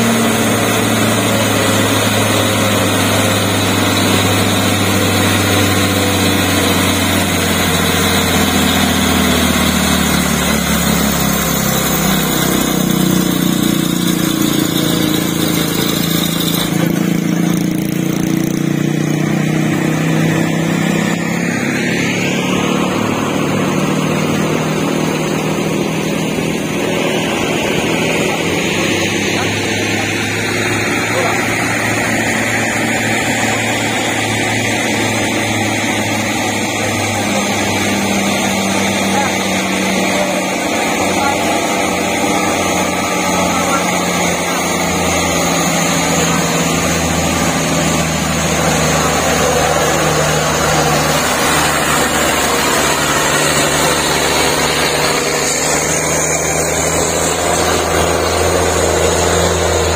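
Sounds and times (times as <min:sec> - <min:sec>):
rising whine: 0:00.0 - 0:59.9
truck diesel engine labouring: 0:00.0 - 0:59.9.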